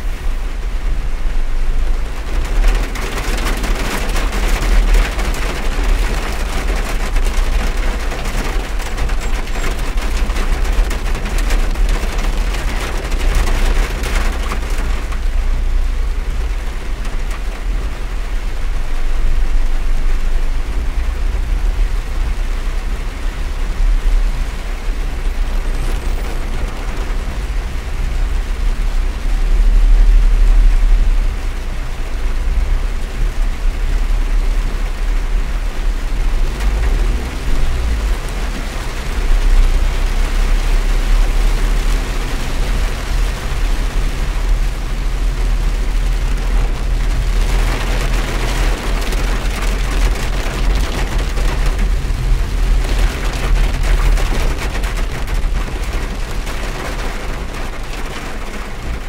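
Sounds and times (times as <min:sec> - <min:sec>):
steady low rumble: 0:00.0 - 0:09.2, 0:09.9 - 0:59.0
heavy rain drumming on car roof: 0:00.0 - 0:59.0.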